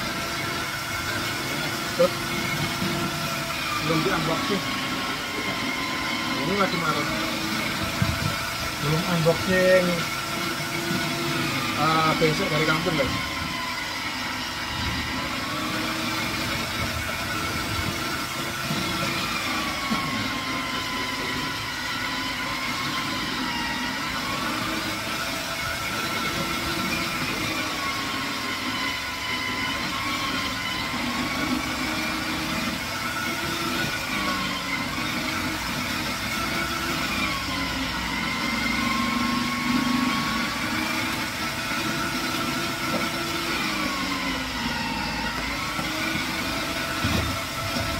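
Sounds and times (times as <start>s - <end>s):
food processor grating: 0.0s - 47.9s.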